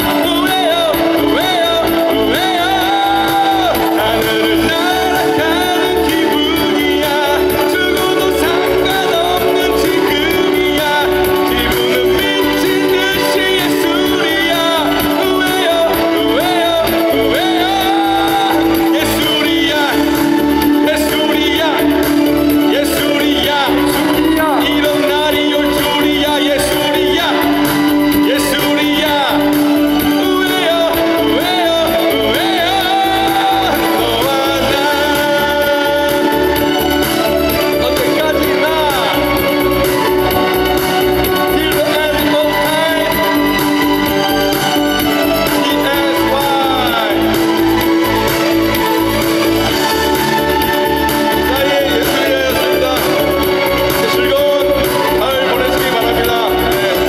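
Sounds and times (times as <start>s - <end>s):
man singing into microphone: 0.0s - 57.0s
music with steady beat: 0.0s - 57.0s
pop backing track over pa: 0.0s - 57.0s.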